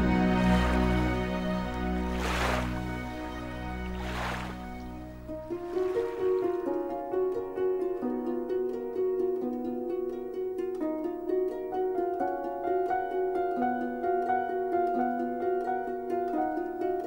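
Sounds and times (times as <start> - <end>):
plucked harp-like string music: 0.0 - 17.0.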